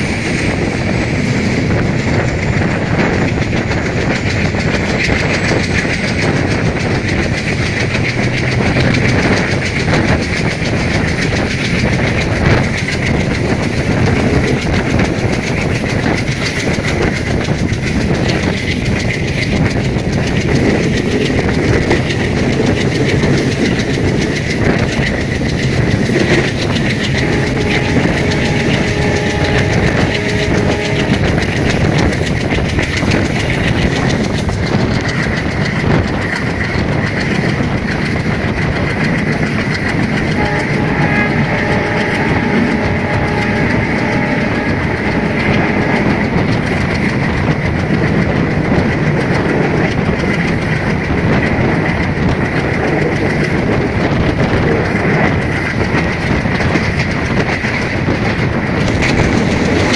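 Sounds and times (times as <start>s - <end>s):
passenger train passing: 0.0s - 59.9s
wheels clattering over track: 0.0s - 59.9s.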